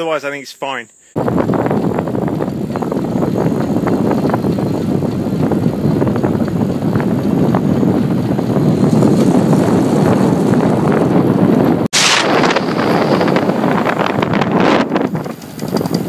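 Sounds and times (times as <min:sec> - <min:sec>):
wind buffeting microphone: 0:01.2 - 0:16.0.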